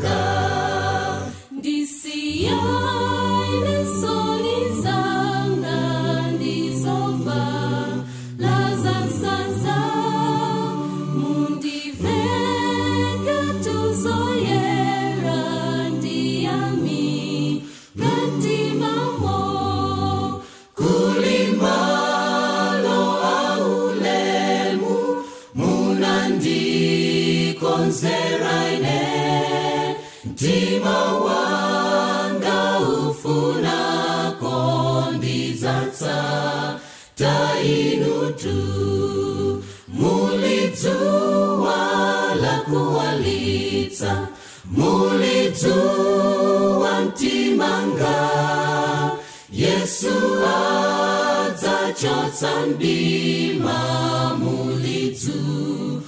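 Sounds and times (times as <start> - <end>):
a cappella group singing a hymn: 0.0 - 56.0.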